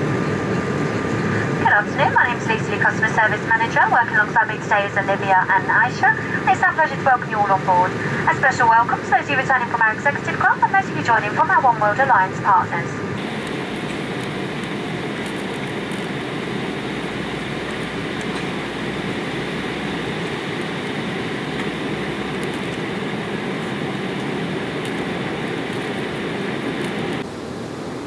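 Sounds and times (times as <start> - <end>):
jet engines rushing: 0.0 - 28.0.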